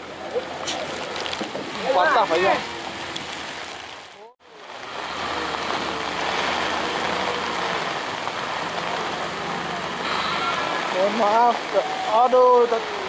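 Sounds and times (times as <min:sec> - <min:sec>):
steady rain: 0:00.0 - 0:13.0
wind: 0:00.0 - 0:13.0.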